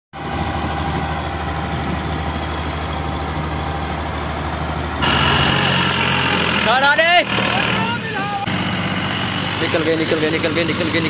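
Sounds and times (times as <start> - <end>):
diesel engine running: 0.1 - 11.0
tractor engine: 0.1 - 11.0.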